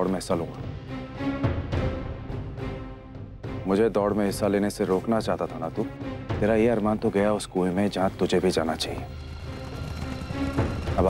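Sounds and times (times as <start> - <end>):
dramatic music held tones: 0.0 - 11.0.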